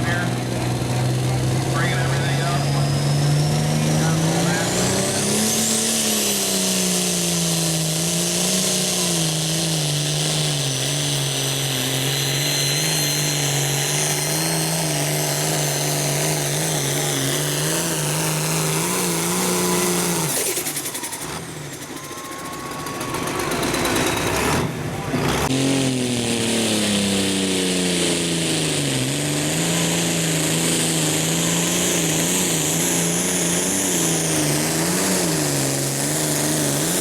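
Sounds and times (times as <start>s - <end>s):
diesel engine at full throttle: 0.0s - 37.0s
high turbo whine: 0.0s - 37.0s.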